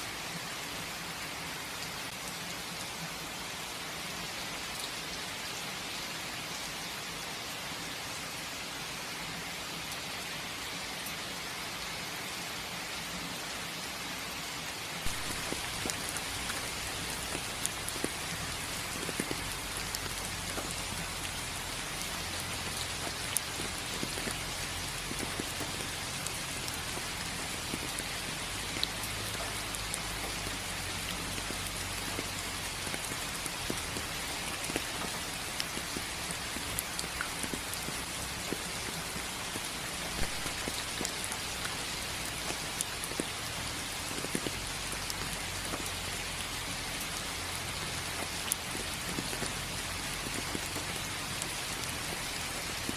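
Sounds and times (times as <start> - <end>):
raindrops striking a surface: 9.0 - 52.9.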